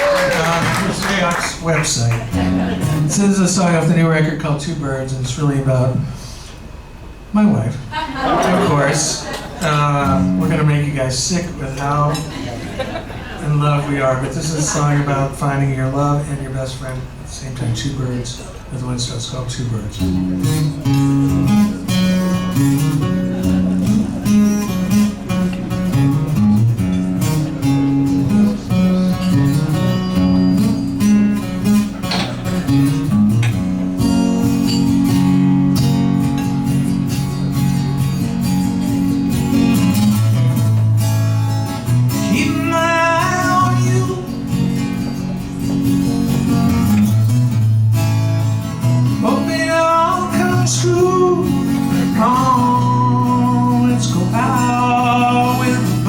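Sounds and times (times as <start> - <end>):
acoustic guitar strumming and picking: 0.0 - 6.0, 6.7 - 56.0.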